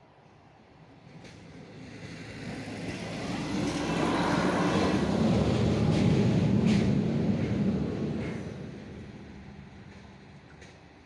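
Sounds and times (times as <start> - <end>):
diesel train approaching: 0.2 - 11.0.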